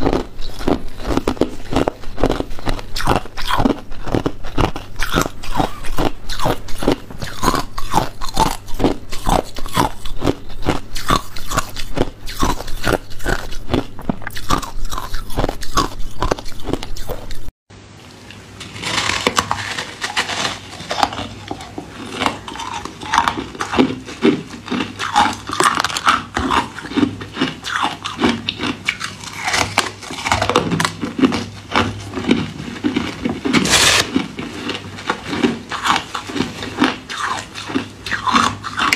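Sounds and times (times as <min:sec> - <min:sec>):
ice being chewed crunching: 0:00.0 - 0:17.5, 0:18.8 - 0:38.9.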